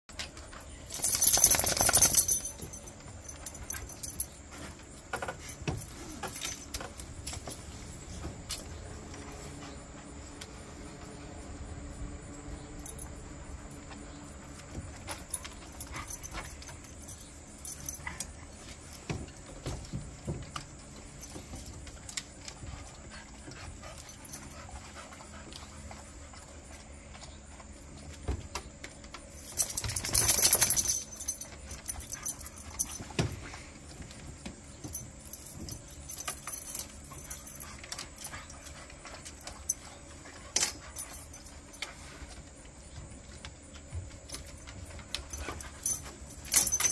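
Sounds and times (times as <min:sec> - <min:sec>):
harness and chair clicks and jingles: 0:00.1 - 0:11.2, 0:12.4 - 0:46.9.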